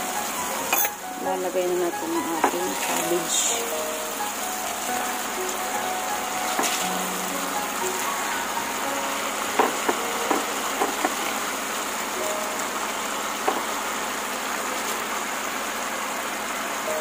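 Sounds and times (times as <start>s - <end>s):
stir-fry sizzling in a pan: 0.0s - 17.0s.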